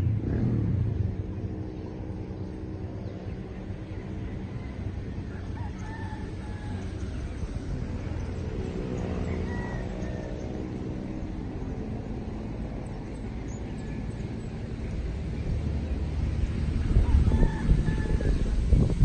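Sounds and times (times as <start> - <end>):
distant engine drone passing: 0.0 - 19.0
low outdoor rumble: 0.0 - 19.0.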